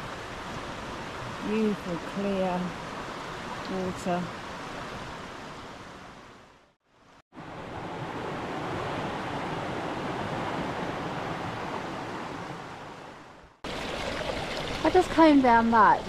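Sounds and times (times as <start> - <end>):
river water running: 0.0 - 16.0.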